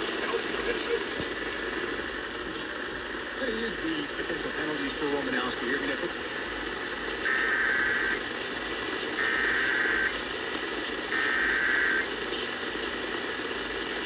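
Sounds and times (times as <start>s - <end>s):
radio hiss: 0.0s - 14.0s.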